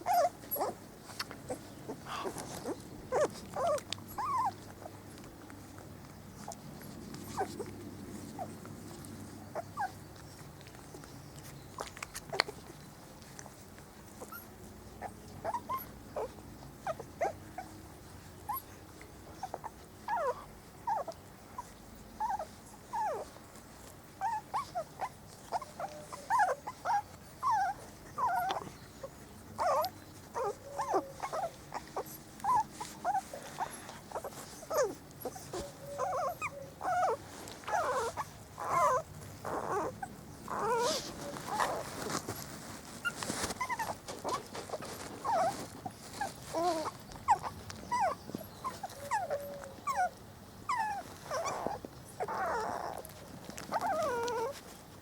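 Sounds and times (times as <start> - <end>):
puppies whimpering and squealing: 0.0 - 55.0.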